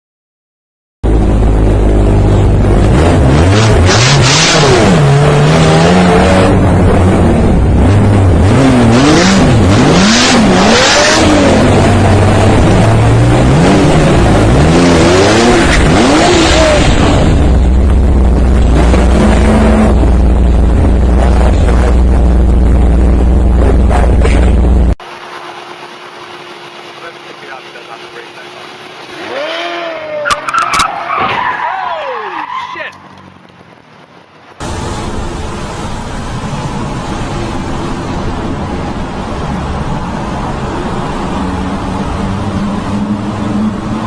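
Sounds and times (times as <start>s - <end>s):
car engine revving: 1.0s - 31.7s, 32.4s - 44.0s.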